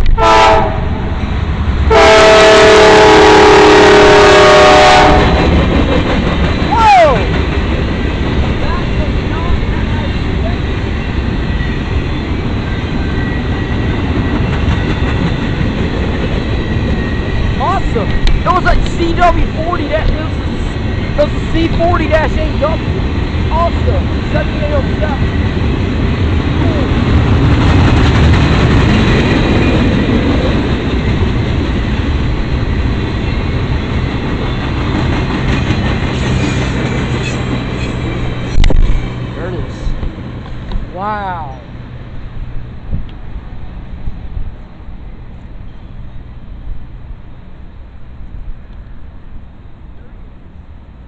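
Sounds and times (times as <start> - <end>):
freight train rumbling: 0.0 - 51.0.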